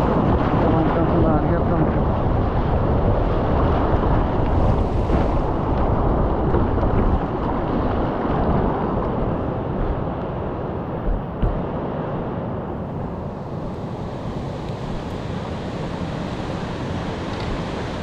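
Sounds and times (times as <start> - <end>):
river rapid roaring: 0.0 - 18.0
wind rumble on microphone: 0.0 - 18.0.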